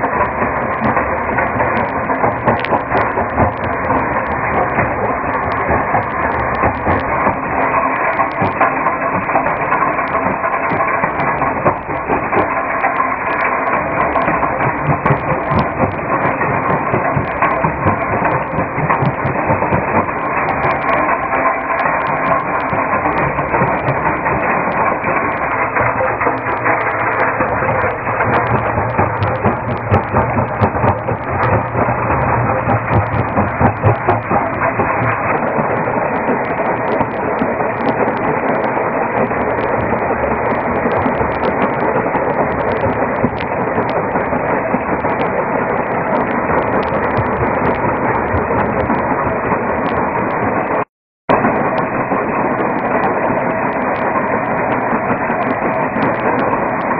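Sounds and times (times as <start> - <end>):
rock crusher clattering: 0.0 - 50.2.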